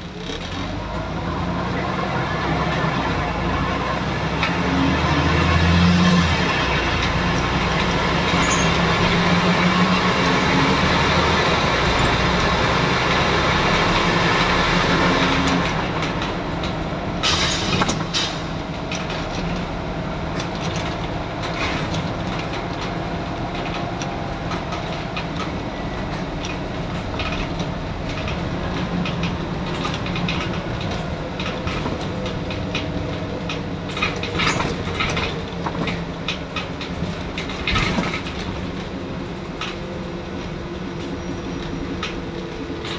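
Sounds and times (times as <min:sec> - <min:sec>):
bus body rattling: 0:00.0 - 0:42.9
bus diesel engine running: 0:00.0 - 0:42.9
road noise: 0:00.0 - 0:42.9.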